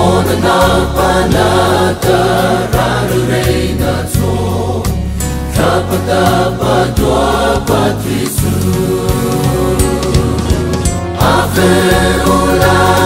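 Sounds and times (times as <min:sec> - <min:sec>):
gospel choir singing: 0:00.0 - 0:13.0
instrumental accompaniment with bass: 0:00.0 - 0:13.0.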